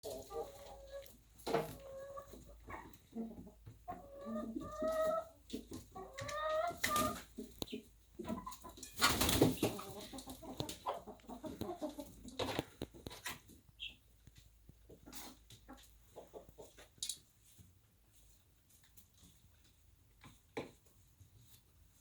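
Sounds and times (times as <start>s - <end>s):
chickens clucking: 0.0s - 21.6s.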